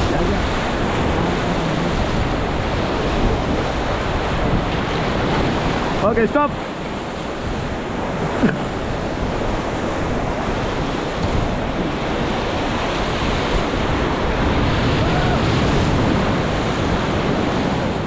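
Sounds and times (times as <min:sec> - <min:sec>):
river whitewater rushing: 0:00.0 - 0:18.0
wind buffeting microphone: 0:00.0 - 0:18.0.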